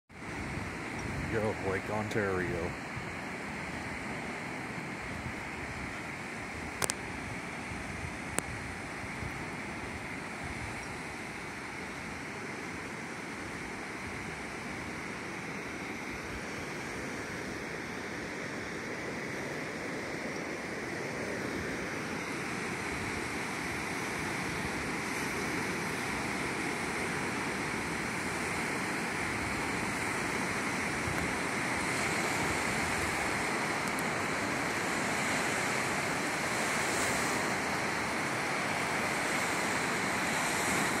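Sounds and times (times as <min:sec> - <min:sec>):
waves washing up a beach: 0:00.1 - 0:41.0.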